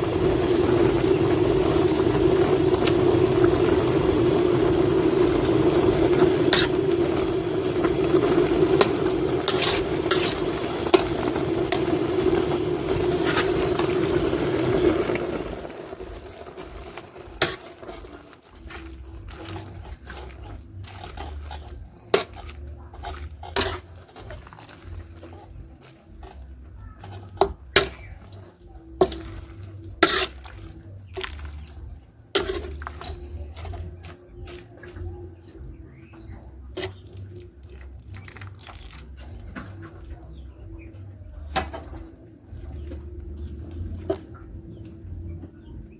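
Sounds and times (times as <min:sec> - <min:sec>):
metal pot and utensils clinking: 0:00.0 - 0:45.4.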